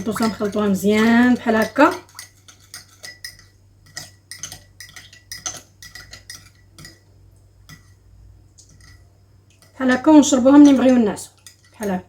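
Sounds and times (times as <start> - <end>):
spoon clinking in a cup: 0.0 - 7.0, 8.6 - 9.0, 9.6 - 12.0.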